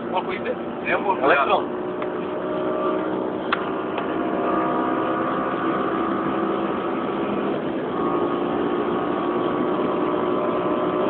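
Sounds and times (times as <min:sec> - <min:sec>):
car engine drone: 0:00.0 - 0:11.0
road noise rushing: 0:00.0 - 0:11.0.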